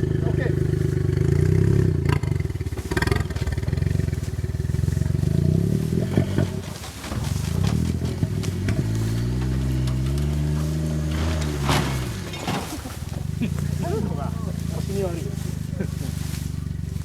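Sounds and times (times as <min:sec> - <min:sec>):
engine revving under load: 0:00.0 - 0:17.0.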